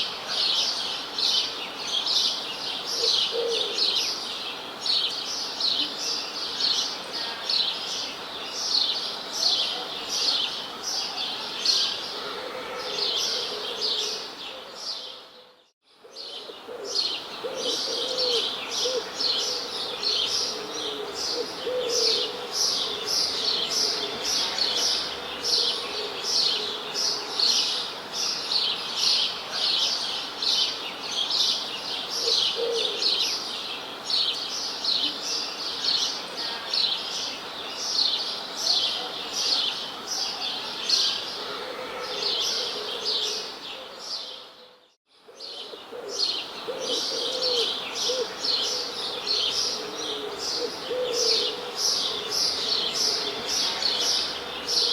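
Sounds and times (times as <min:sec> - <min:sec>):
flock of songbirds chirping: 0:00.0 - 0:54.9.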